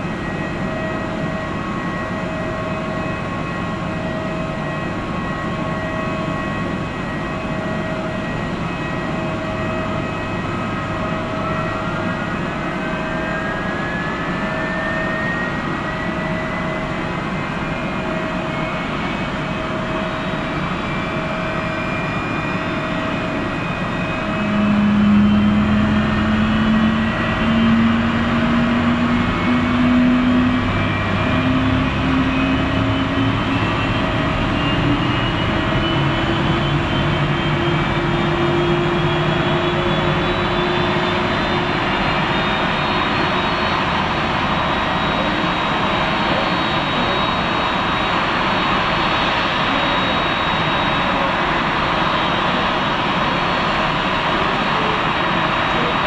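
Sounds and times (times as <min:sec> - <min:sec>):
jet engine rush: 0:00.0 - 0:56.0
jet engine whine: 0:00.0 - 0:56.0.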